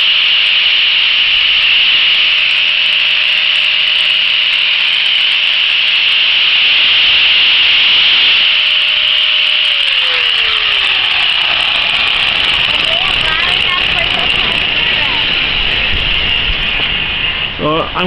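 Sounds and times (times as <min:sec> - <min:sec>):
electric sander motor hum: 0:00.0 - 0:17.6.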